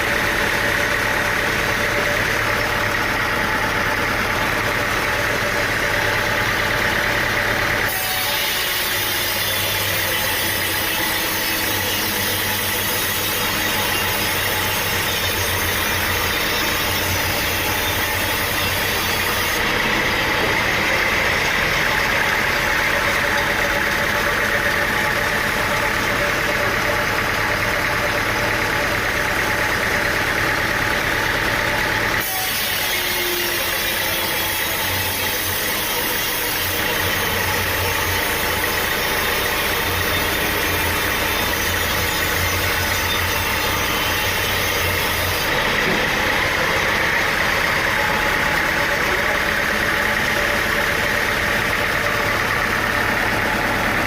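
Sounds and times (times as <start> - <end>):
motor running: 0.0 - 54.0.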